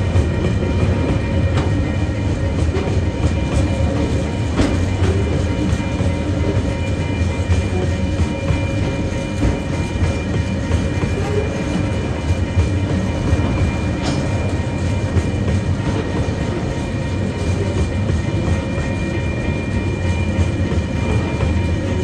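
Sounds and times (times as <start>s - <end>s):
train wheels rumbling on rails: 0.0s - 22.0s
wheels clicking on rails: 0.0s - 22.0s.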